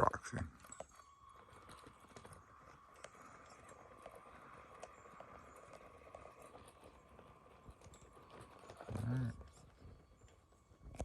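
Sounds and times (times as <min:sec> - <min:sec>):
rocks clicking under toy car: 0:00.6 - 0:11.0.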